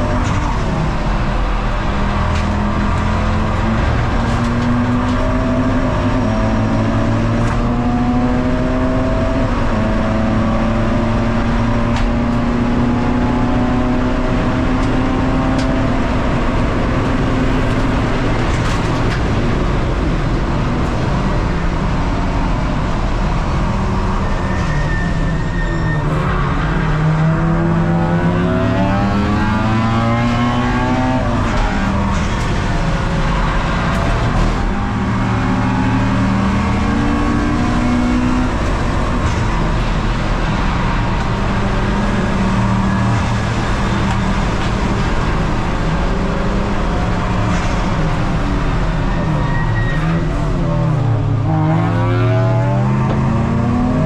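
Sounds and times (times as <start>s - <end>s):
race car engine revving: 0.0s - 24.3s, 26.0s - 54.0s.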